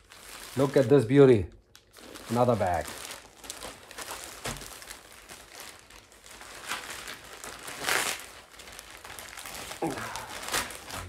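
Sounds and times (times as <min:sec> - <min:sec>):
plastic bags crinkling and rustling: 0:00.0 - 0:11.0.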